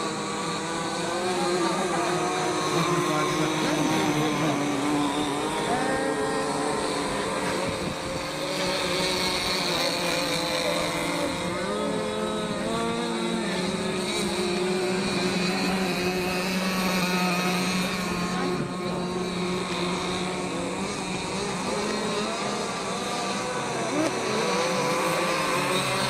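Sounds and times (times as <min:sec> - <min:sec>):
rc boat engines whining: 0:00.0 - 0:26.0.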